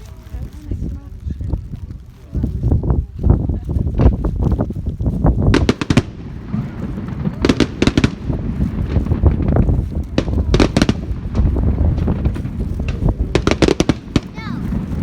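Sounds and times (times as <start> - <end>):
fireworks cracking: 0.0 - 15.0
low rumble: 0.0 - 15.0.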